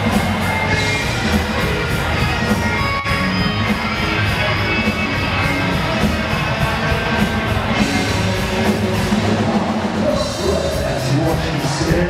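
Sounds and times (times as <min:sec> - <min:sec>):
distorted electric guitars: 0:00.0 - 0:12.0
drum kit beat: 0:00.0 - 0:12.0.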